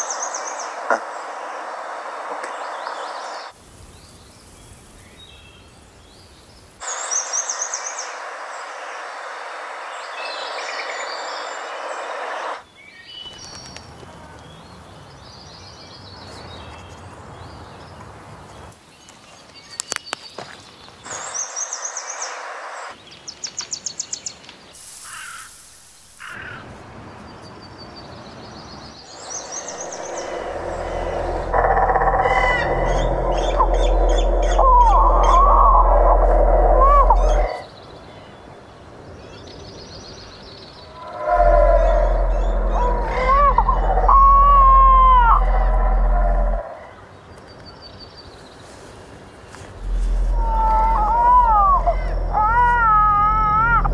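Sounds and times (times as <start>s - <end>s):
steady background hiss: 0.0s - 16.1s, 17.0s - 53.9s
birds chirping and trilling: 0.0s - 53.9s.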